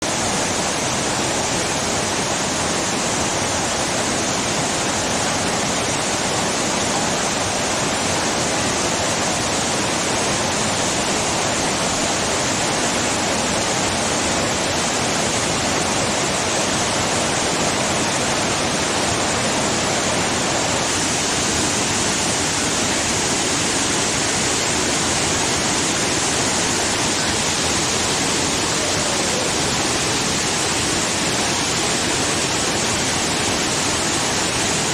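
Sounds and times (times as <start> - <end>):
waterfall rushing into pool: 0.0 - 34.9.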